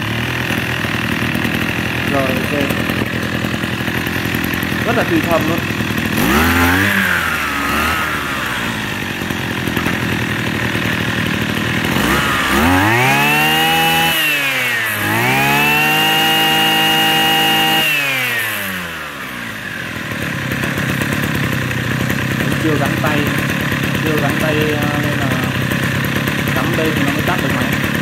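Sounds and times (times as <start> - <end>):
brush cutter engine revving: 0.0 - 28.0.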